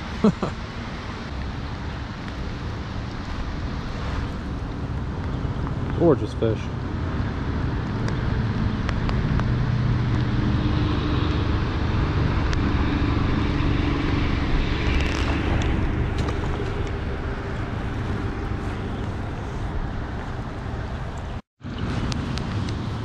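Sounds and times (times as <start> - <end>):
distant vehicle engine hum: 0.0 - 23.0.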